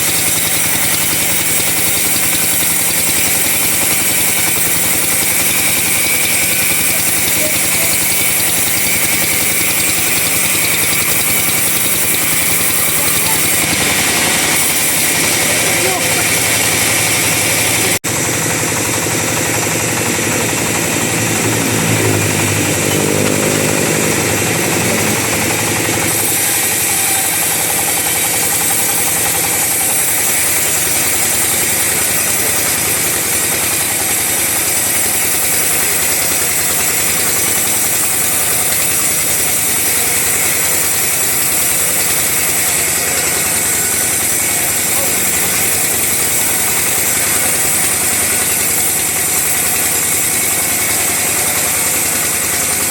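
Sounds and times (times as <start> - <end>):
chainsaw sawing timber: 0.0 - 52.9.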